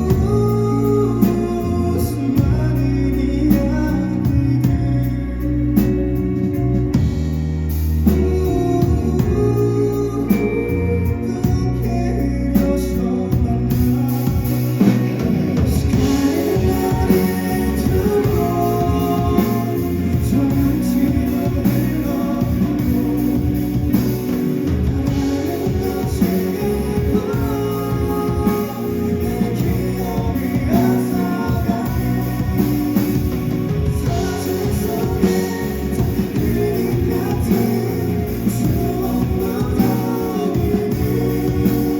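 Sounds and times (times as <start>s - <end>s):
lead vocalist singing: 0.0s - 41.9s
live band playing ballad: 0.0s - 41.9s.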